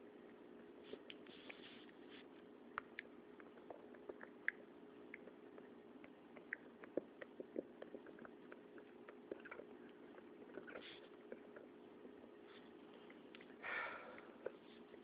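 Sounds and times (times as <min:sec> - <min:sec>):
low hum of room tone: 0:00.0 - 0:15.0.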